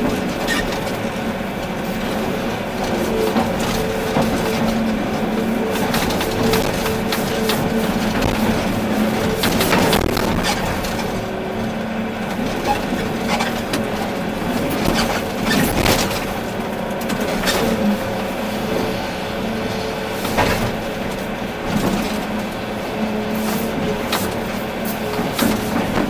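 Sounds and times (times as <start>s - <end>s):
excavator engine hum: 0.0s - 26.0s
excavator knocks and clanks: 0.0s - 26.0s.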